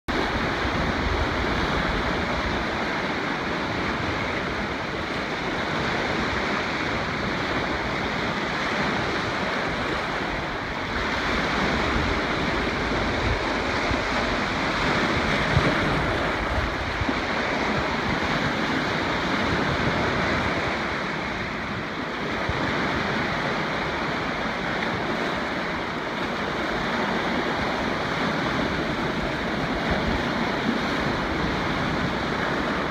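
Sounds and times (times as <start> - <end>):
waves breaking on stony shore: 0.1 - 32.9
wind rumble on microphone: 0.1 - 32.9.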